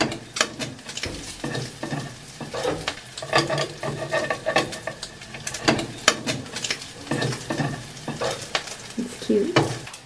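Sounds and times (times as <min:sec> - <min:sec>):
food frying in a pan: 0:00.0 - 0:10.0
tongs clicking and scraping: 0:00.0 - 0:10.0.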